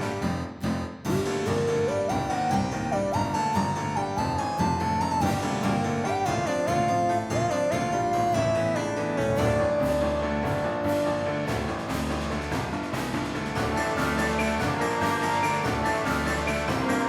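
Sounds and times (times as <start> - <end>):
struck keyboard notes: 0.0 - 17.0
sliding lead melody: 1.1 - 17.0.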